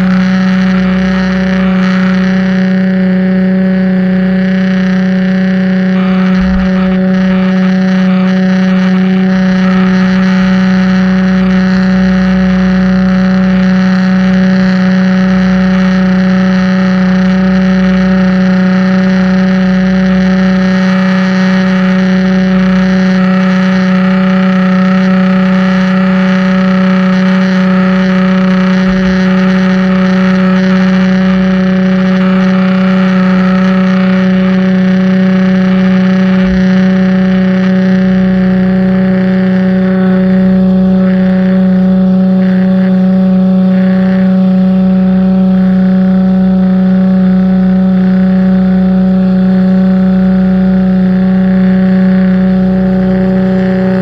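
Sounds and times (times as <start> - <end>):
pressure washer hum: 0.0 - 54.0.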